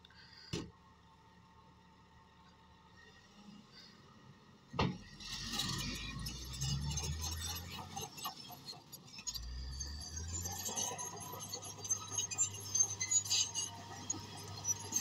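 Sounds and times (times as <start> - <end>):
bulldozer engine rumble: 0.2 - 15.0.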